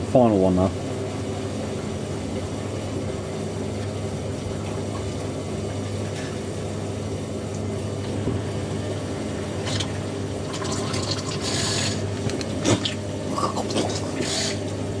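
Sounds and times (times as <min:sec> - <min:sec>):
second washing machine running: 0:00.0 - 0:15.0
washer dryer spinning: 0:00.0 - 0:15.0.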